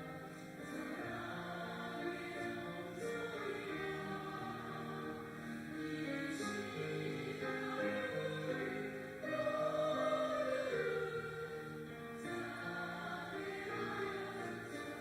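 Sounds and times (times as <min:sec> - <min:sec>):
church choir singing a hymn: 0:00.0 - 0:15.0.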